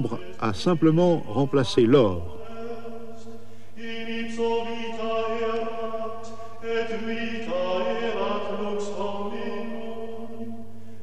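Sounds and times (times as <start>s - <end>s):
voices singing slow chant: 0.0s - 11.0s.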